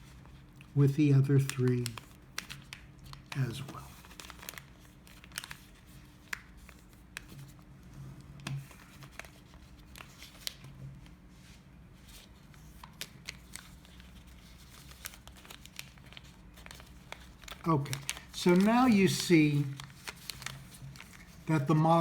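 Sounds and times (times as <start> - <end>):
paper rustling and creasing: 0.0 - 22.0.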